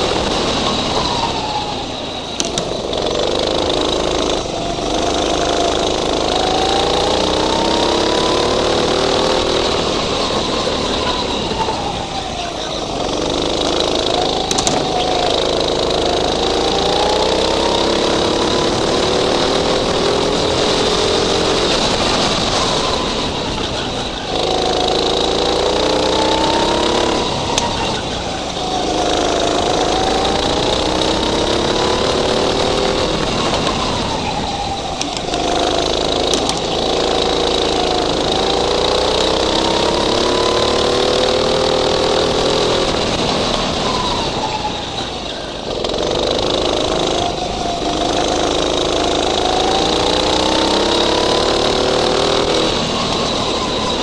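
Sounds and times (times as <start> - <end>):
go-kart engine revving: 0.0 - 54.0.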